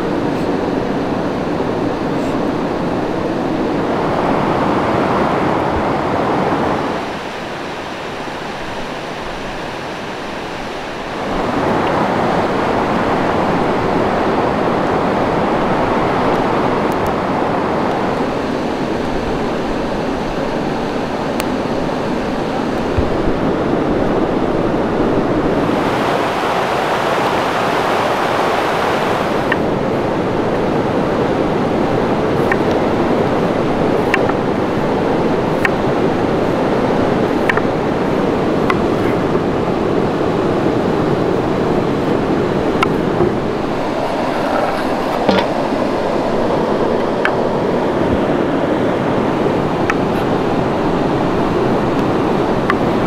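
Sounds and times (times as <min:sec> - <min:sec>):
steady rushing noise: 0:00.0 - 0:53.0.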